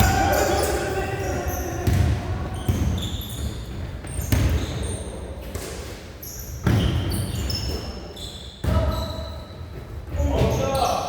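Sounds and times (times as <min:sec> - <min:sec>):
shoes squeaking on floor: 0:00.0 - 0:05.4, 0:06.2 - 0:11.0.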